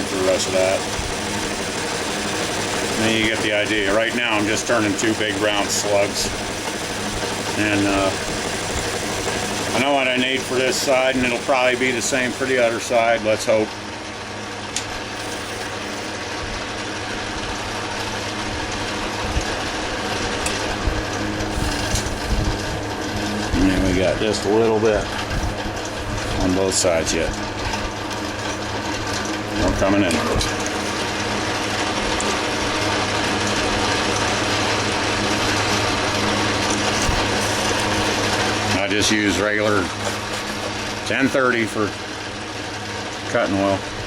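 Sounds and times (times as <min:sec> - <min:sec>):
metal lathe running: 0:00.0 - 0:44.0.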